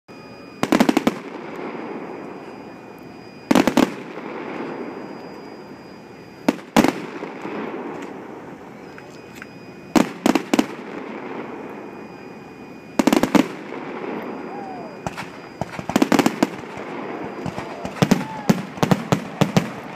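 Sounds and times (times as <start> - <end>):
fireworks cracking: 0.6 - 5.5, 6.4 - 12.2, 12.9 - 19.9.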